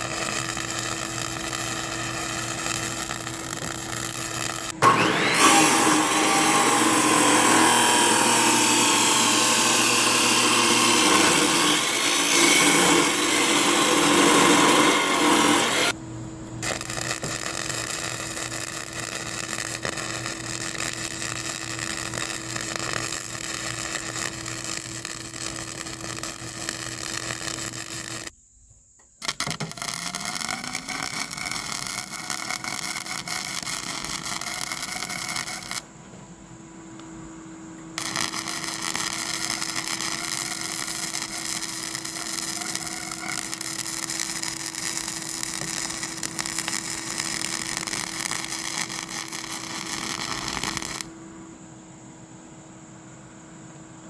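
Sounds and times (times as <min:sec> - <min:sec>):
power tool grinding: 0:00.0 - 0:16.0, 0:16.6 - 0:28.3, 0:29.2 - 0:36.0, 0:37.7 - 0:51.1
motor whine: 0:00.0 - 0:28.3, 0:29.2 - 0:54.0.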